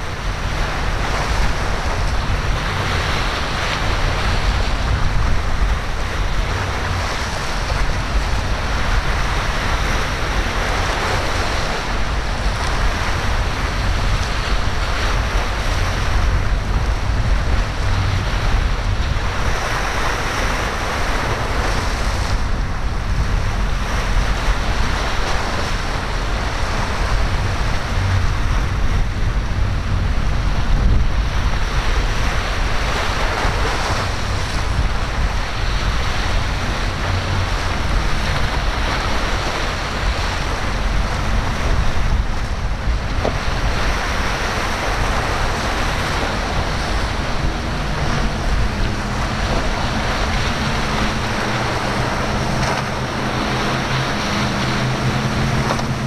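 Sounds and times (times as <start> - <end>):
ocean waves breaking: 0.0 - 56.0
wind rumbling on microphone: 0.0 - 56.0.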